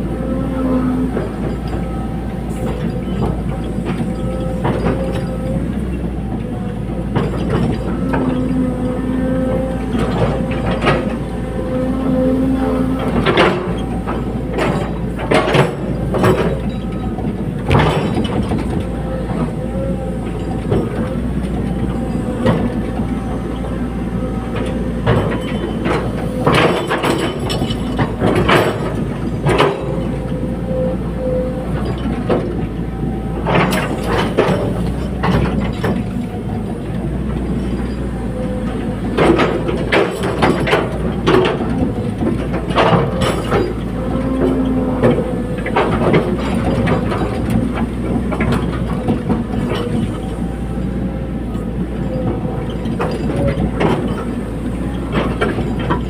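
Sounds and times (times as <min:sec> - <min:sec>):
excavator diesel engine: 0:00.0 - 0:56.0
metal clanks and knocks: 0:00.3 - 0:56.0.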